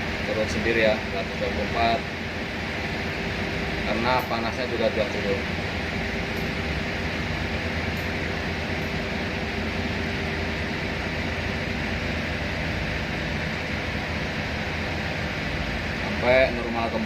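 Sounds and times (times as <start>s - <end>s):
steady machinery drone: 0.0s - 17.0s.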